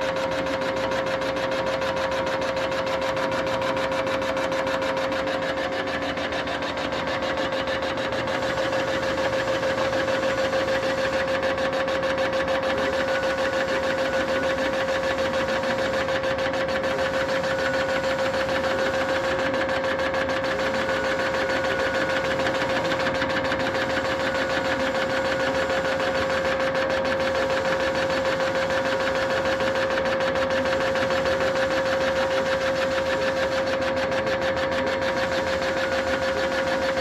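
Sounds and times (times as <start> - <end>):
boring machine cutting metal: 0.0 - 37.0.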